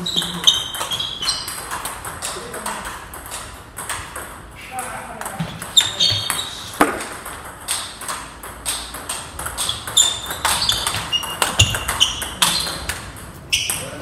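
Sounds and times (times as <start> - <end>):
table tennis ball clicking: 0.0 - 14.0.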